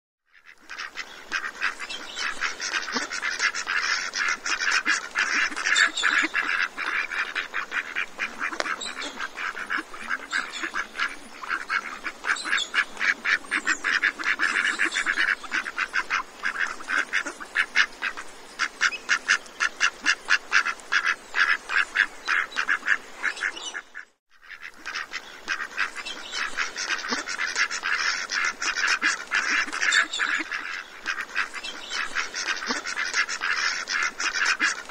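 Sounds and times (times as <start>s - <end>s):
flock of ducks quacking: 0.3s - 34.9s.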